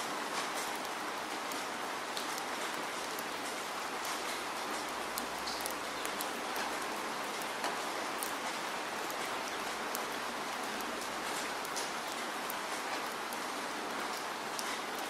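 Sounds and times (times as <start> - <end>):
steady rain on wet ground: 0.0 - 15.0
raindrop ticks: 0.2 - 15.0.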